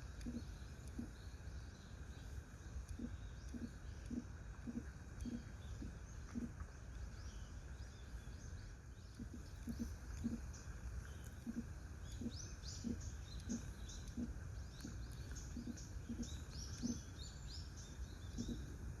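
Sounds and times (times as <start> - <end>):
low background rumble: 0.0 - 19.0
small birds chirping: 0.0 - 19.0.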